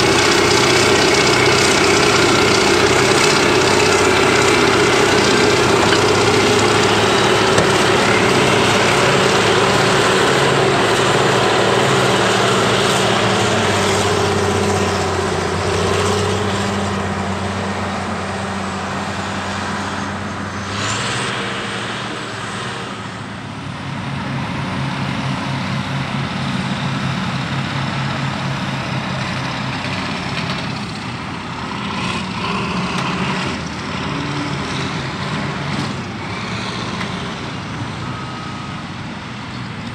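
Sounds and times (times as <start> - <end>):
crawler dozer engine running: 0.0 - 39.9
diesel engines working under load: 0.0 - 39.9.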